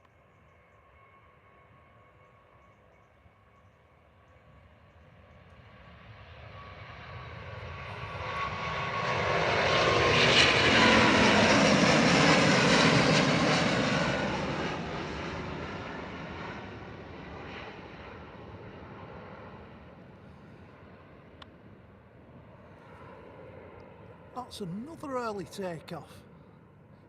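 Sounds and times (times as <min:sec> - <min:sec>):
jet airliner taking off: 0:03.9 - 0:27.0.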